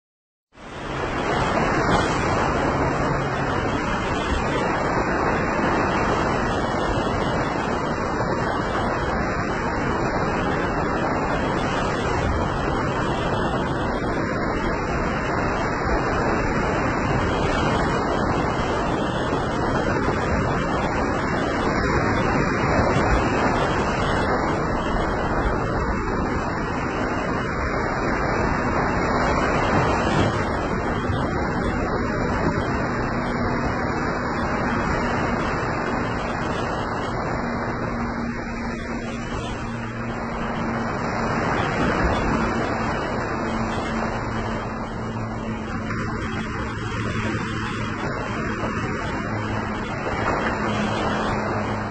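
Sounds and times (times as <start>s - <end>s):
small waves breaking on beach: 0.6s - 51.9s.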